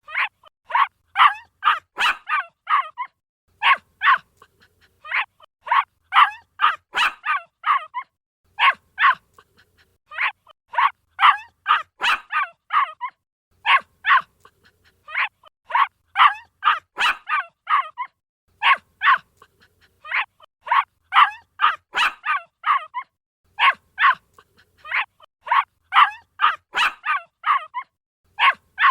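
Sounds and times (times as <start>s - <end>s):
puppy yipping and barking: 0.0s - 28.9s.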